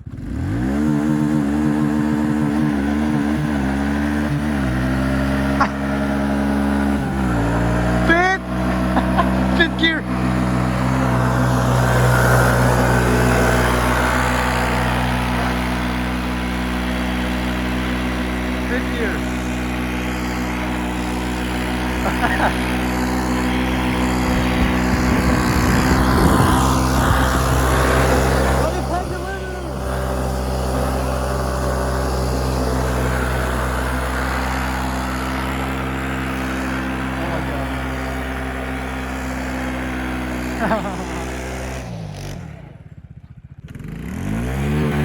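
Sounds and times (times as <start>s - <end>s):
vehicle engine running steadily: 0.0s - 45.0s.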